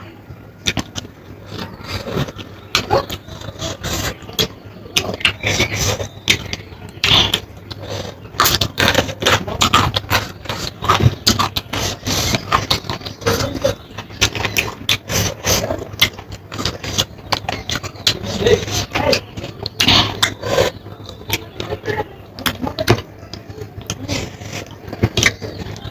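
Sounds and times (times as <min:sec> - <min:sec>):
low steady hum: 0:00.0 - 0:25.9
chewing and mouth smacks: 0:00.6 - 0:21.8.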